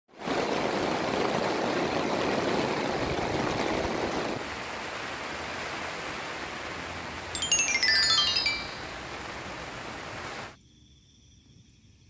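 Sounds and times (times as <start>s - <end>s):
heavy rain pouring: 0.1s - 10.6s.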